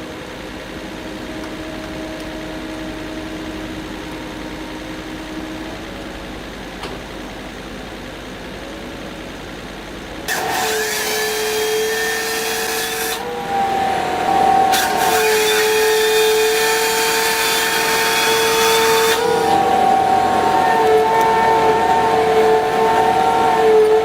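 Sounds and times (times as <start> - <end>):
machine motor whine: 0.0 - 24.0.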